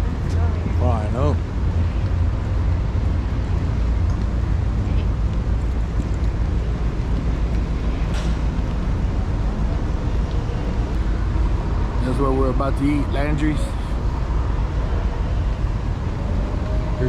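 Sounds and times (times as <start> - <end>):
outdoor low rumble: 0.0 - 17.0.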